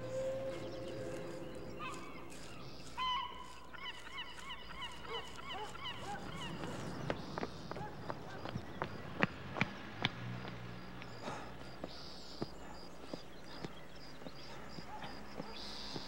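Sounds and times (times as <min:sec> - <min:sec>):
birds calling: 0:00.0 - 0:16.0
running footsteps: 0:00.0 - 0:16.0.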